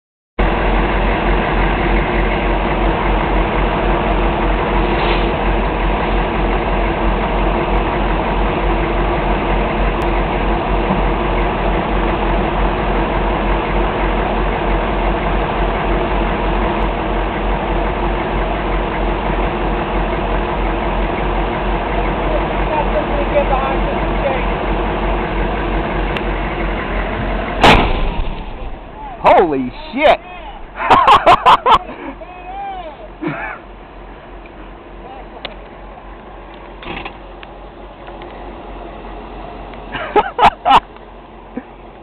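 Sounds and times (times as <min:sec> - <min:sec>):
vehicle engine idling: 0:00.4 - 0:42.0.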